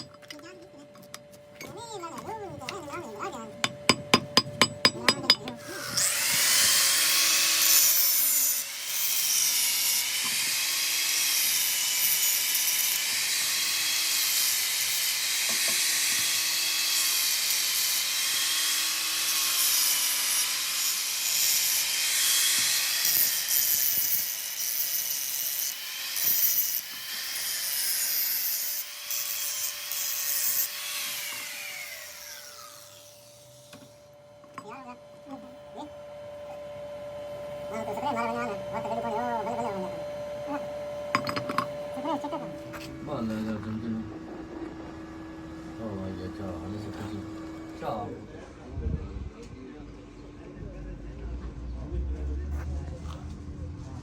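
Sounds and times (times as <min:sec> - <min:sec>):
power tool grinding metal: 0:00.0 - 0:48.5.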